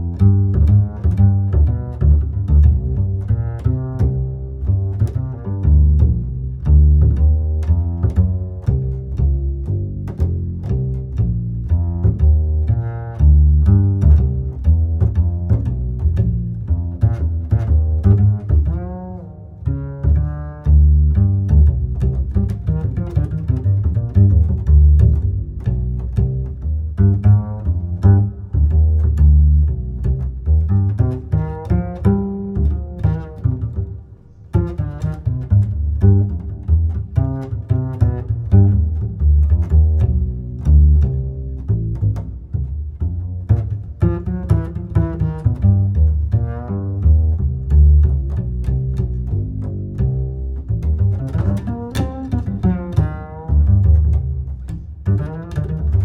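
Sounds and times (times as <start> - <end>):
plucked bass line: 0.0 - 56.0
string-like melody: 0.0 - 56.0.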